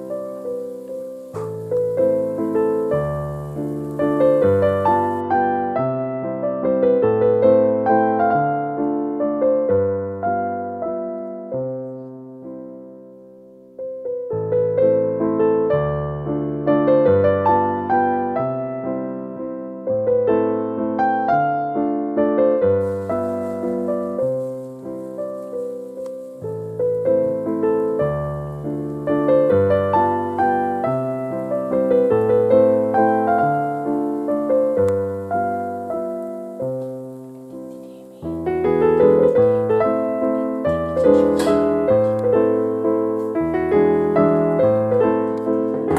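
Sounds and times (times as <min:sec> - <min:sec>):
slow piano music: 0:00.0 - 0:45.9.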